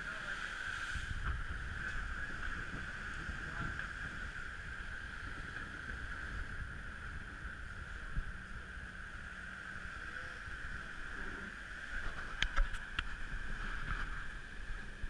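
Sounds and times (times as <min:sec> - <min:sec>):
wind and water rushing: 0:00.0 - 0:15.0
wind buffeting microphone: 0:00.0 - 0:15.0.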